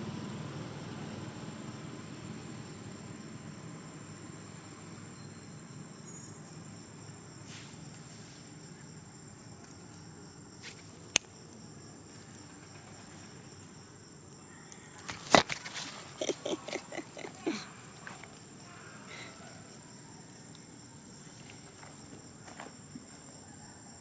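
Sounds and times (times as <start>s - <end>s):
insects droning high tone: 0.1s - 24.0s.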